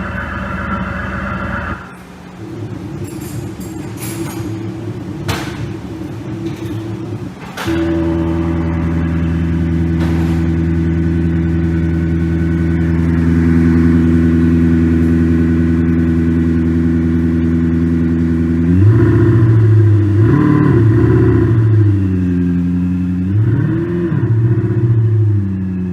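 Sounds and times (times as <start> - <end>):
synthesized sports car engine: 0.0 - 25.9.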